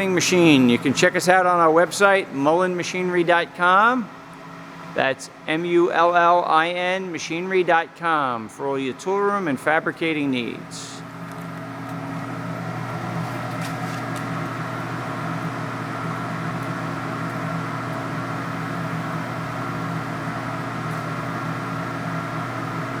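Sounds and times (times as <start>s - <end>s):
lathe humming: 0.0s - 23.0s.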